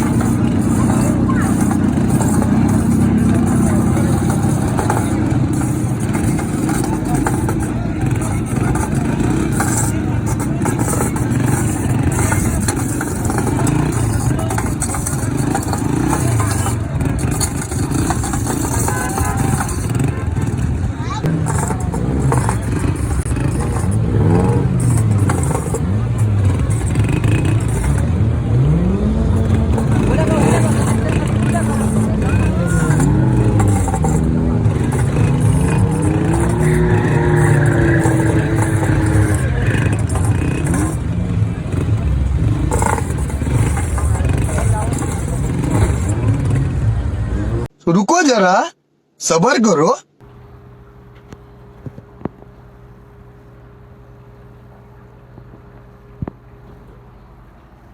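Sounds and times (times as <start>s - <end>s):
car engine running: 0.0s - 47.8s, 50.1s - 57.9s
people's voices: 0.0s - 50.1s
crowd noise: 0.0s - 57.9s.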